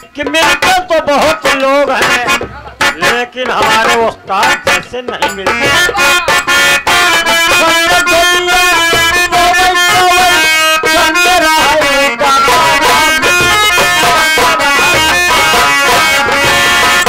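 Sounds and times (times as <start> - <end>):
drums keeping steady beat: 0.0 - 17.0
harmonium playing chords: 0.0 - 17.0
person singing into microphone: 0.0 - 17.0.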